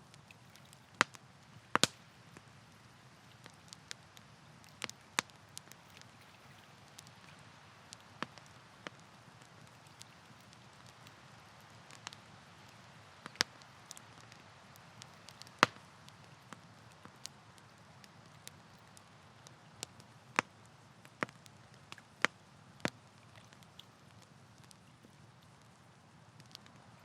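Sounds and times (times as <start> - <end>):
campfire crackling: 0.0 - 27.0
soft steady hiss: 0.0 - 27.0.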